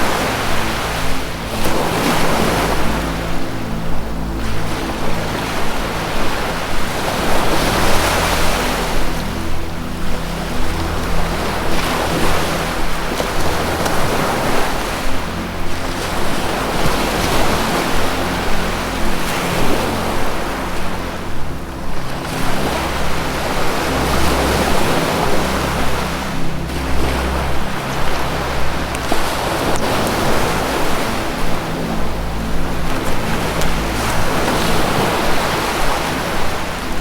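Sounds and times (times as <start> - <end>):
low held music notes: 0.0 - 37.0
ocean surf washing in: 0.0 - 37.0.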